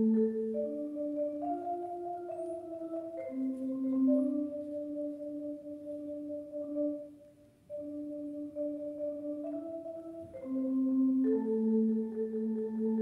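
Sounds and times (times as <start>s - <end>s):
marimba playing slow notes: 0.0s - 13.0s.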